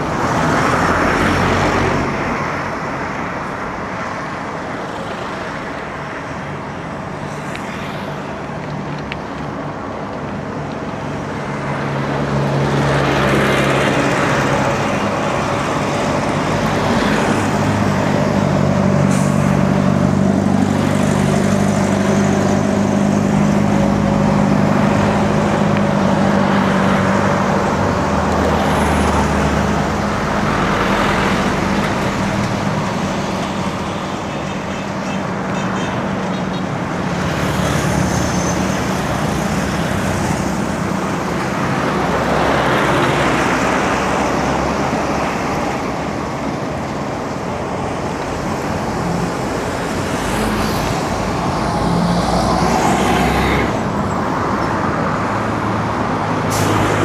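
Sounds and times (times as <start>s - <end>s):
road traffic engines: 0.0s - 57.0s.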